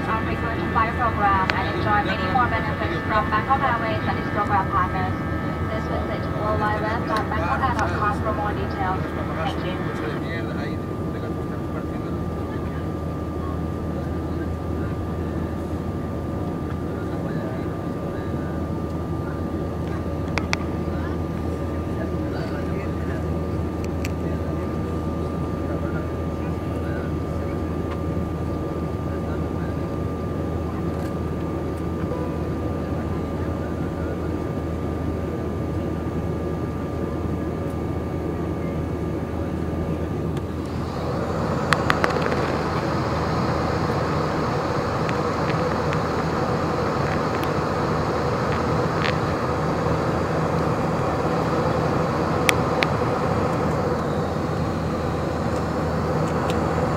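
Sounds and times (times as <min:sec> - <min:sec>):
faint steady whine: 0:00.0 - 0:56.9
jet engine cabin drone: 0:00.0 - 0:56.9.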